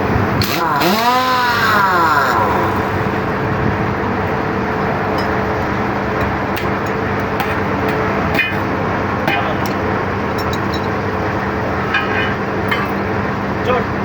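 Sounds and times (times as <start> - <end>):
engine hum: 0.0 - 14.0
roadside traffic noise: 0.0 - 14.0.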